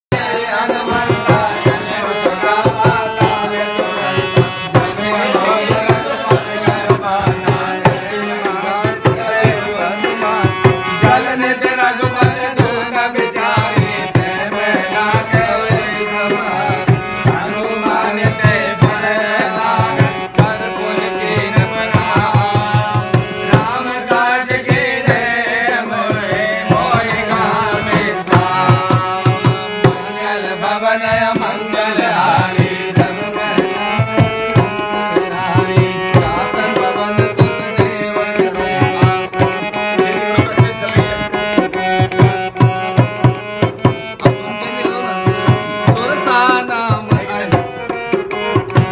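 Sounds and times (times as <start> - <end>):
hand drum rhythm: 0.1 - 48.9
harmonium: 0.1 - 48.9
man singing: 0.1 - 48.9.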